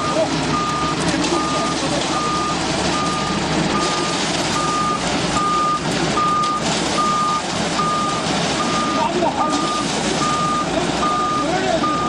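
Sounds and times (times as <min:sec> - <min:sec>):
mixer engine running: 0:00.0 - 0:12.0
reversing alarm beeping: 0:00.0 - 0:12.0.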